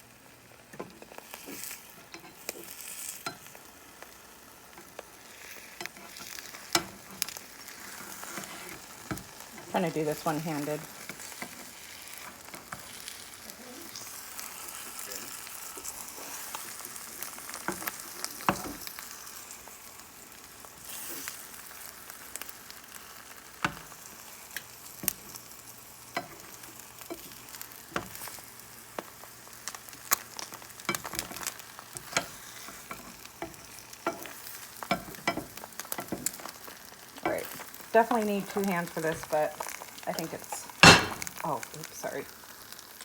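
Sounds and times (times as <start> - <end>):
eggs sizzling in a frying pan: 0.0 - 43.0.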